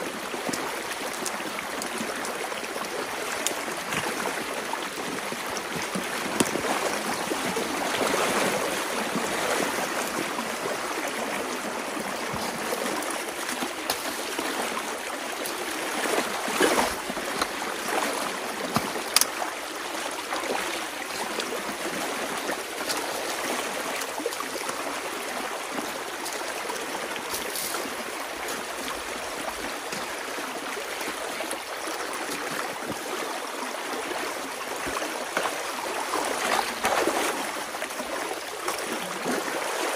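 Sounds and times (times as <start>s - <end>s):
water rushing and gurgling: 0.0s - 39.9s.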